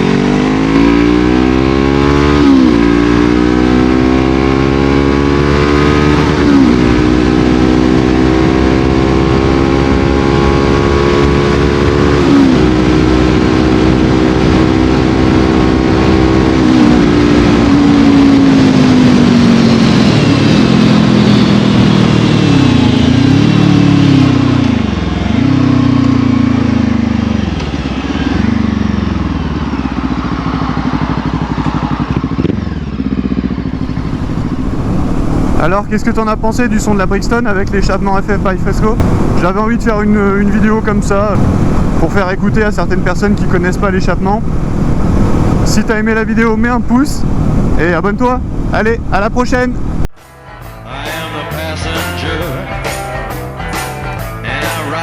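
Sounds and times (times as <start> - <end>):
motorcycle engine accelerating: 0.0 - 50.1.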